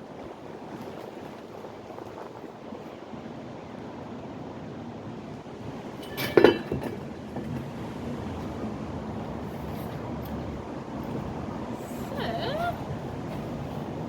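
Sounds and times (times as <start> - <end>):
steady wind: 0.0 - 14.0.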